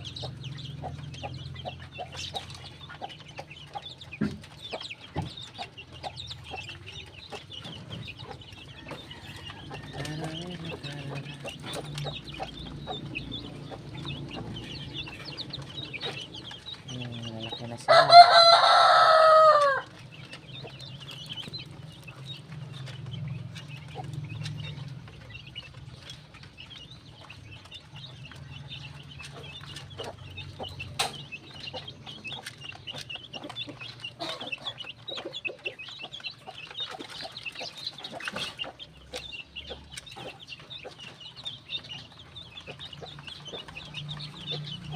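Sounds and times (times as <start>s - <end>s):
chickens clucking and peeping: 0.0s - 44.9s.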